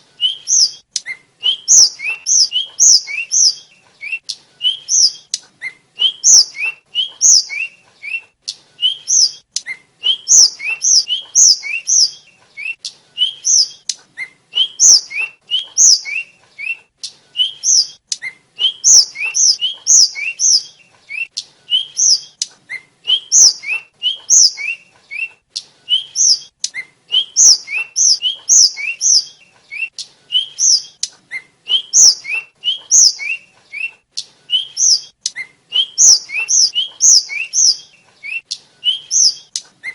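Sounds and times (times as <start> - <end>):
bird singing whistled chirps: 0.0 - 39.9.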